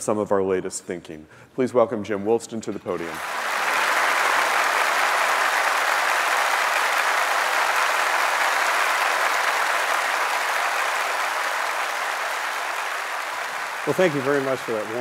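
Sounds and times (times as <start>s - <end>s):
large audience applauding: 3.0s - 15.0s.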